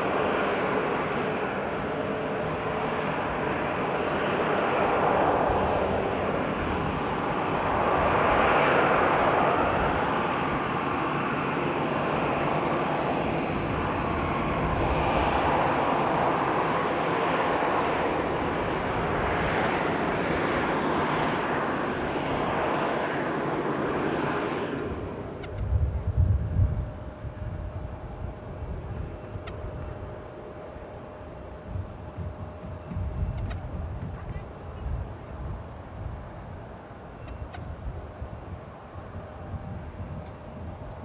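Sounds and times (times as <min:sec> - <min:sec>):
jet engines rushing: 0:00.0 - 0:41.0.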